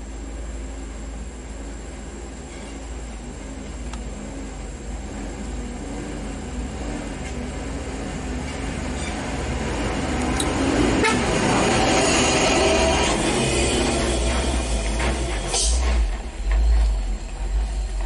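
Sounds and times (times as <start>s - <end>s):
truck diesel engine rumbling: 0.0s - 18.0s.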